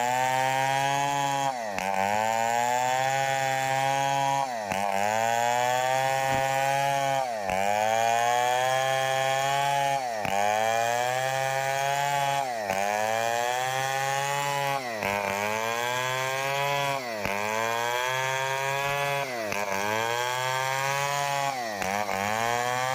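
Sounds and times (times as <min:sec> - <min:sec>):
chainsaw sawing timber: 0:00.0 - 0:22.9.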